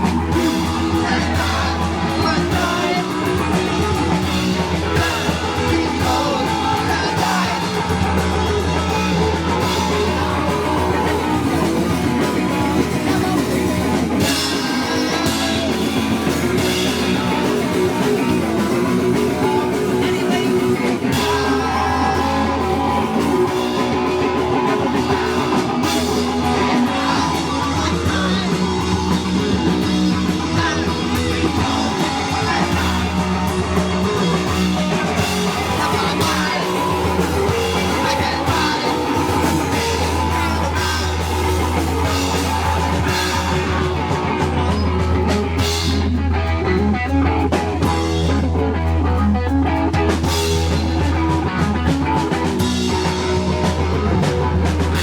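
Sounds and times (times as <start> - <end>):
person singing: 0.0 - 49.2
drum kit: 0.0 - 55.0
guitar: 0.0 - 55.0.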